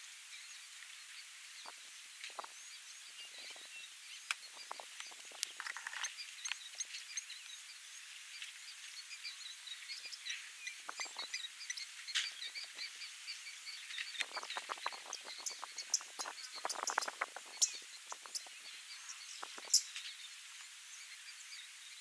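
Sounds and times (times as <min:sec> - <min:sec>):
faint outdoor hiss: 0:00.0 - 0:22.0
small birds chirping: 0:00.0 - 0:22.0.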